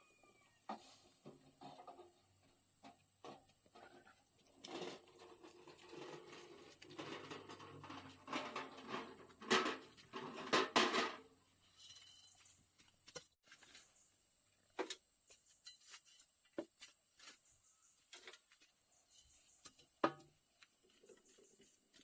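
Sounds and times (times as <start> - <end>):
small knocks and scrapes: 0.7 - 14.1, 14.7 - 22.0.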